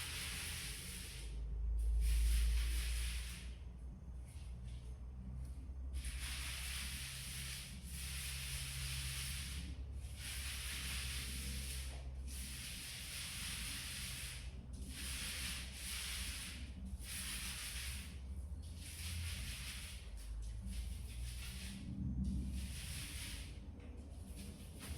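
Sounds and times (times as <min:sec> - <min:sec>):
paint roller on wall: 0:00.0 - 0:24.9.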